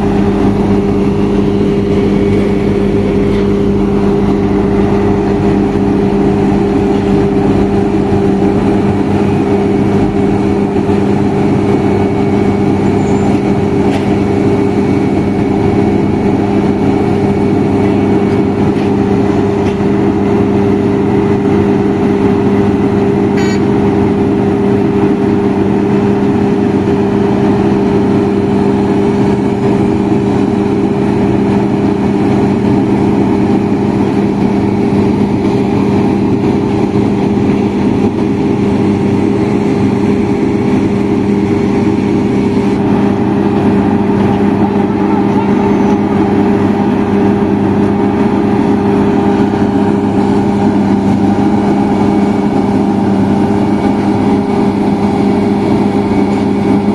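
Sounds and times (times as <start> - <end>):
heavy diesel engines running: 0.0 - 56.9.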